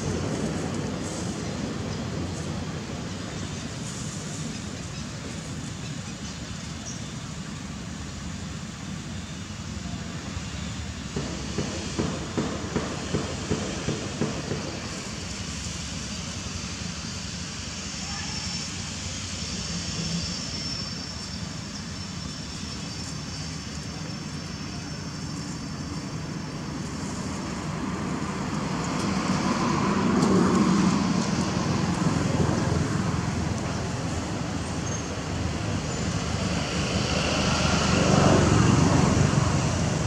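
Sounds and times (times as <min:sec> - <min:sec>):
distant road traffic: 0:00.0 - 0:40.0.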